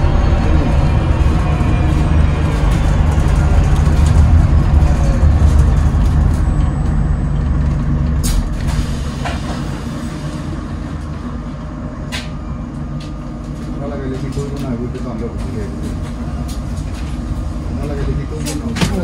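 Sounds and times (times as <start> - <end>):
bus drive rumble: 0.0 - 19.0.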